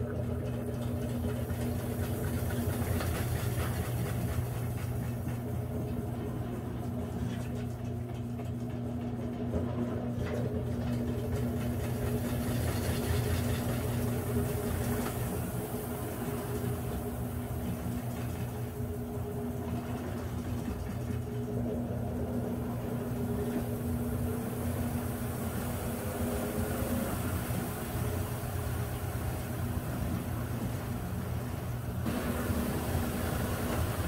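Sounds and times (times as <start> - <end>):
washing machine spinning hum: 0.0 - 34.0
washing machine whine: 0.0 - 34.0.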